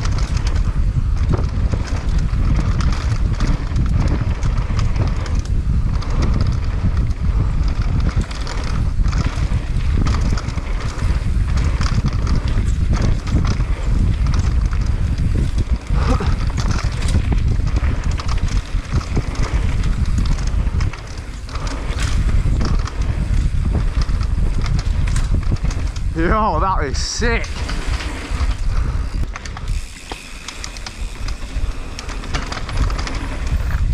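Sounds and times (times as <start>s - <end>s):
bike knocking and rattling: 0.0s - 33.9s
wind and tyres on dirt: 0.0s - 33.9s.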